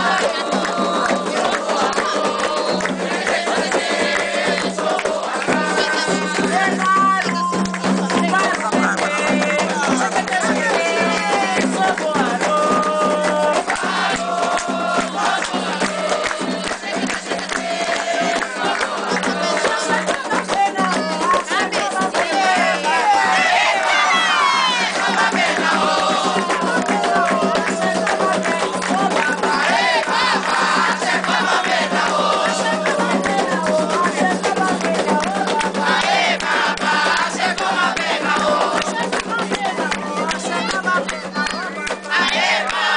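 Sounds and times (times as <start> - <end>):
rattling percussion: 0.0 - 42.8
fast drumming: 0.0 - 42.9
group singing a chant: 0.0 - 42.9.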